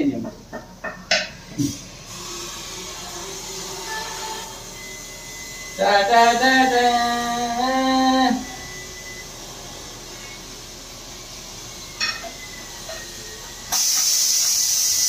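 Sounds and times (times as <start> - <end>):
loud steady high hiss: 1.1 - 15.0.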